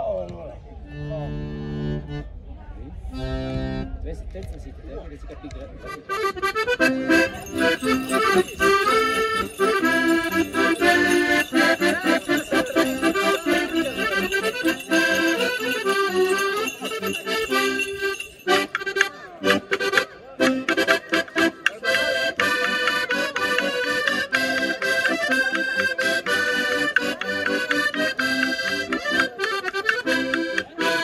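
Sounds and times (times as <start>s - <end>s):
accordion playing folk tune: 1.0s - 2.2s, 3.2s - 3.9s, 5.9s - 31.0s.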